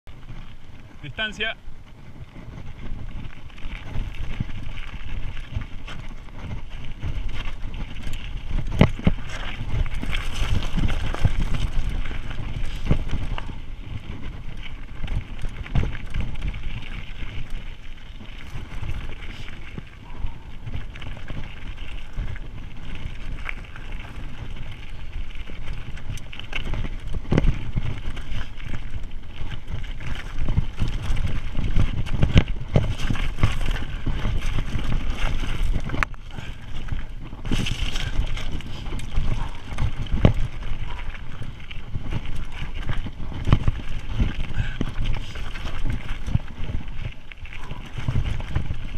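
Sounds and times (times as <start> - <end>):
wind on microphone: 0.0 - 48.9
bike rattling: 0.1 - 48.9
tyres rolling over gravel: 0.1 - 48.9.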